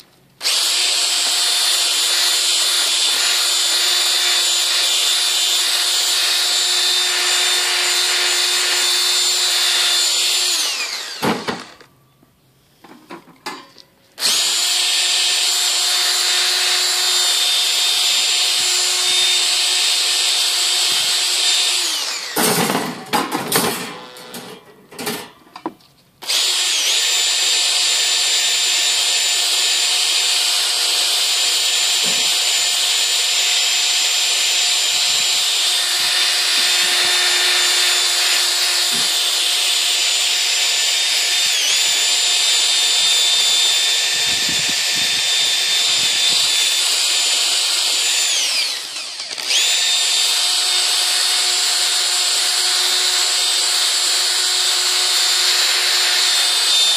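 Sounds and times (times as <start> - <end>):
drill motor whine: 0.4 - 11.9, 14.2 - 22.4, 26.2 - 56.9.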